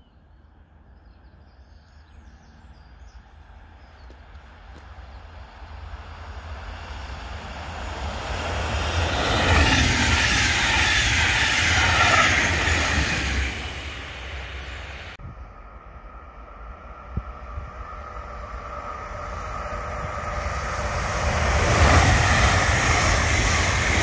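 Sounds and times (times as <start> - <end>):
train passing on rails: 0.0 - 24.0.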